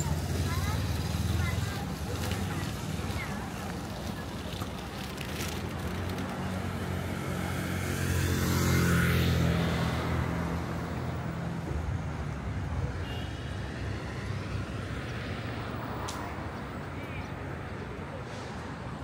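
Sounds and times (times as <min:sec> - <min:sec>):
vehicle engine hum: 0:00.0 - 0:18.7
road noise: 0:00.0 - 0:19.0.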